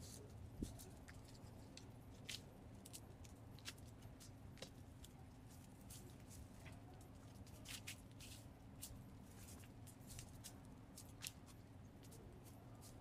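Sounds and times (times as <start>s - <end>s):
faint crackles and ticks: 0.0s - 13.0s.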